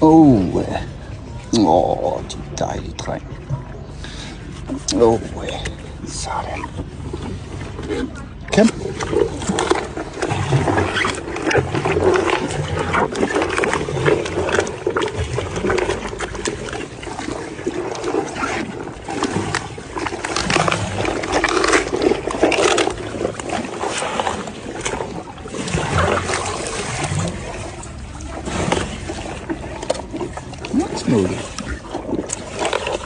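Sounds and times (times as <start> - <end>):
animal chewing and crunching: 4.6 - 33.0.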